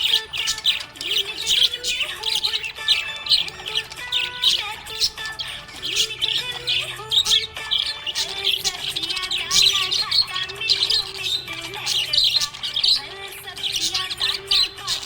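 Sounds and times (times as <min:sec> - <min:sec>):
budgerigars chirping: 0:00.0 - 0:15.0.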